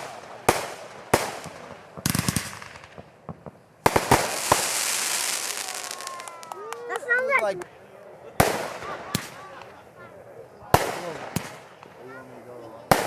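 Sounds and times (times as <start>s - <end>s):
fireworks exploding: 0.0s - 7.6s, 8.4s - 9.8s, 10.7s - 12.2s, 12.8s - 13.0s
fireworks crackling: 0.0s - 7.7s, 8.4s - 9.9s, 10.6s - 13.0s.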